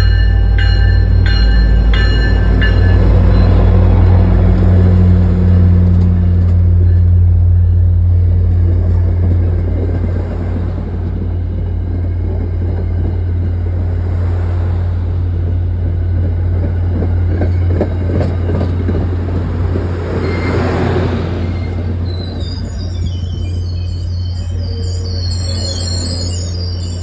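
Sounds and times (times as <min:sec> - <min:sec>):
train coaches rolling past: 0:00.0 - 0:27.0.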